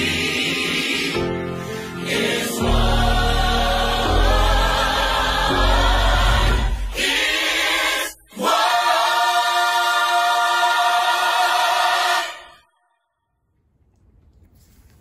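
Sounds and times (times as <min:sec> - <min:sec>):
gospel choir singing: 0:00.0 - 0:12.7.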